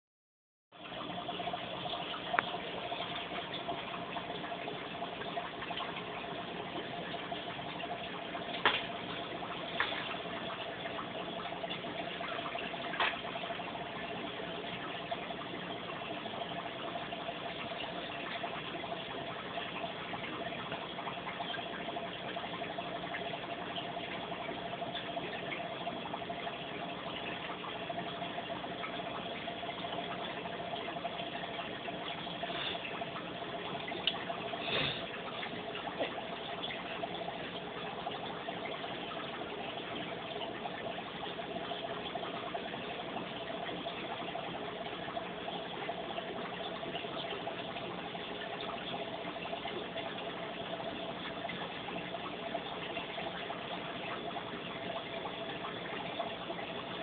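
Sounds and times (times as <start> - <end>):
faint hum: 0.8 - 57.0.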